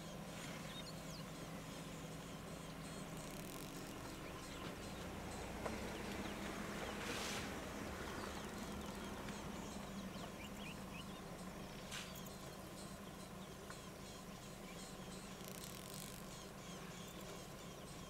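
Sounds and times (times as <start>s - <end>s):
small bird chirps: 0.0s - 7.0s, 8.1s - 18.0s
low steady hum: 0.0s - 18.0s.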